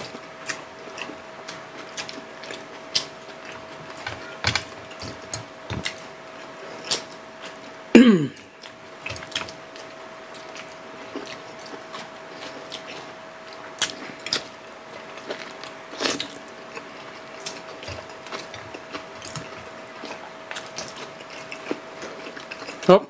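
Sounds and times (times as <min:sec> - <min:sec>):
faint steady hum: 0:00.0 - 0:23.0
wet chewing and lip-smacking: 0:00.1 - 0:07.7, 0:08.6 - 0:22.9.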